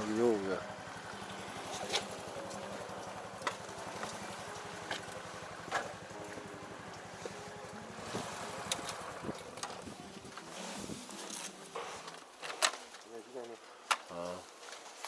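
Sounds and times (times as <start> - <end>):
engine idling: 0.0 - 12.2.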